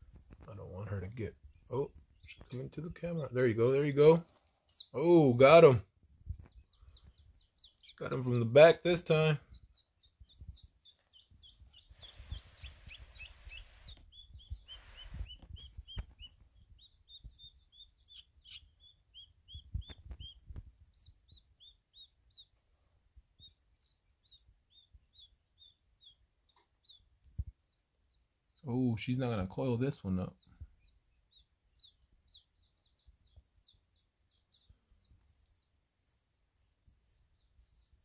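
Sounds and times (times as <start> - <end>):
chick peeping: 0.1 - 38.0.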